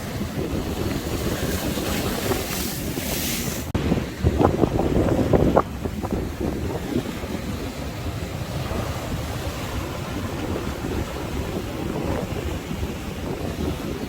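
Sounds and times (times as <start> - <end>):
sea waves washing: 0.0 - 14.0
wind buffeting microphone: 0.0 - 14.0.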